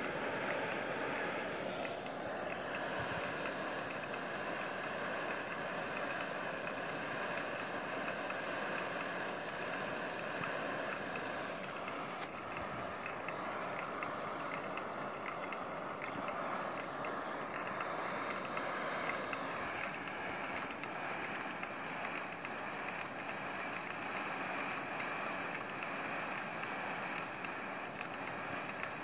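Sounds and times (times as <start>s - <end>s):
model engine mechanical rattle: 0.0s - 29.0s
spinning propeller whir: 0.0s - 29.0s.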